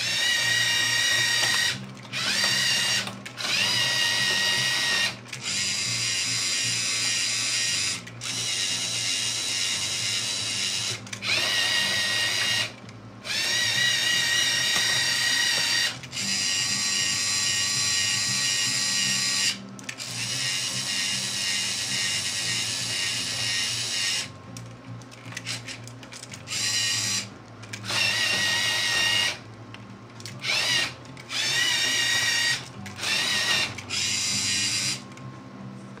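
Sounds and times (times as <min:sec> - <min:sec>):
motor whine: 0:00.0 - 0:24.5, 0:25.3 - 0:29.4, 0:30.2 - 0:36.0.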